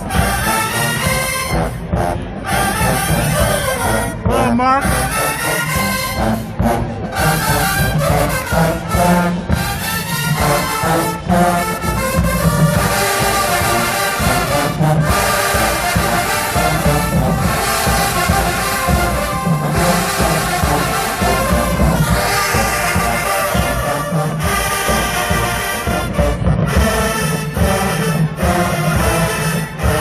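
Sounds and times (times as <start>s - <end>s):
heavy low brass and drums: 0.0s - 30.0s
marching band playing brass music: 0.0s - 30.0s
trombones and trumpets: 0.0s - 30.0s.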